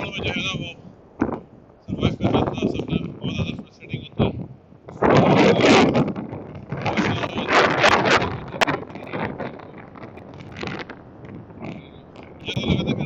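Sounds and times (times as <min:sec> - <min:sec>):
wind gusting over microphone: 0:00.0 - 0:13.0.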